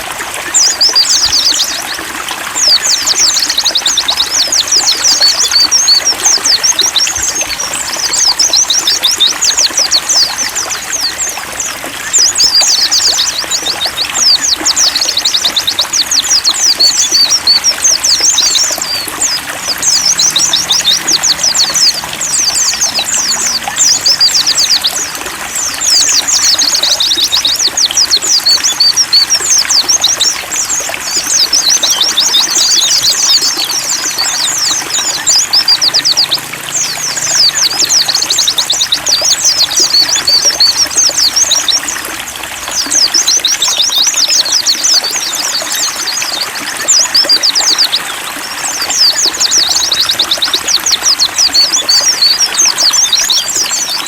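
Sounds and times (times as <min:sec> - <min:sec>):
birds twittering: 0:00.0 - 0:54.0
water trickling: 0:00.0 - 0:54.0.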